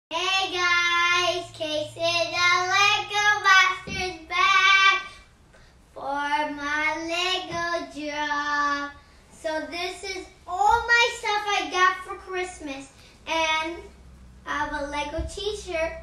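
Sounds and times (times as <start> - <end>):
boy singing unaccompanied: 0.1 - 5.2, 6.0 - 13.9, 14.5 - 16.0.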